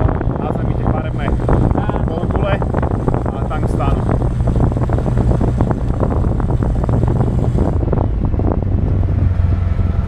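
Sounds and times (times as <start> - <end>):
car engine drone: 0.0 - 10.0
wind buffeting microphone: 0.0 - 10.0.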